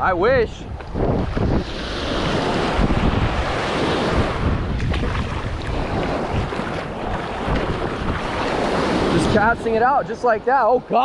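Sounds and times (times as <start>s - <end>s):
wind buffeting microphone: 0.0s - 10.9s
surf breaking: 0.9s - 10.7s.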